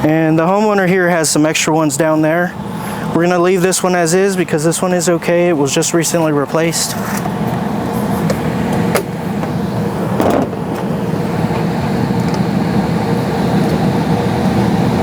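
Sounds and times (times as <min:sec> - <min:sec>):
furnace blower humming: 0:00.0 - 0:15.0.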